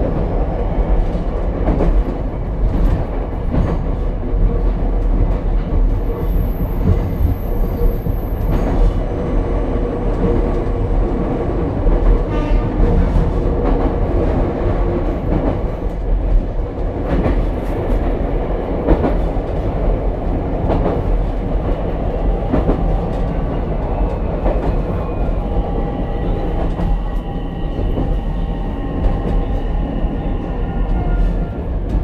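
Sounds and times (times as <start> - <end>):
rail joint clicks: 0.0 - 32.0
train wheels rumbling on rail: 0.0 - 32.0.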